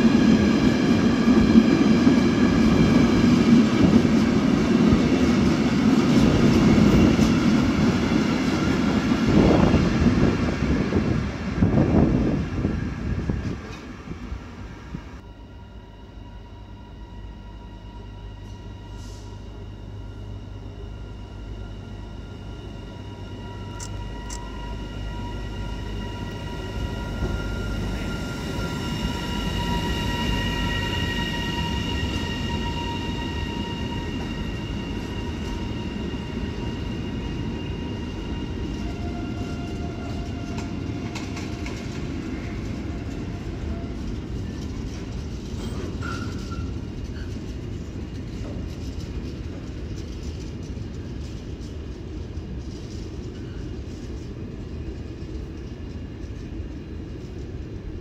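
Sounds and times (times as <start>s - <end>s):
freight train wagons rumbling: 0.0s - 15.2s, 17.3s - 58.0s.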